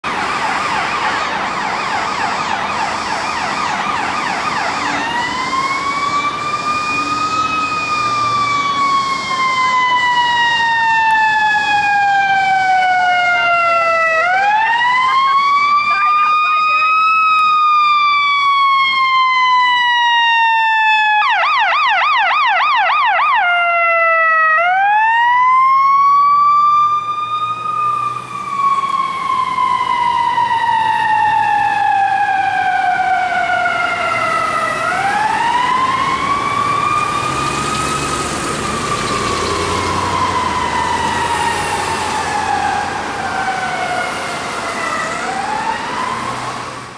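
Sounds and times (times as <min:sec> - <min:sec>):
truck engine passing: 0:00.0 - 0:20.7, 0:25.1 - 0:46.9
fire engine siren: 0:00.0 - 0:46.9.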